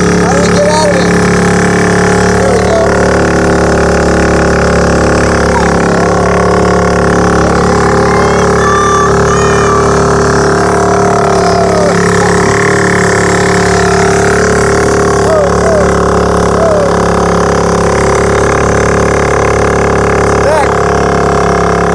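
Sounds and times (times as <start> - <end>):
bumper-boat motors droning: 0.0 - 21.9.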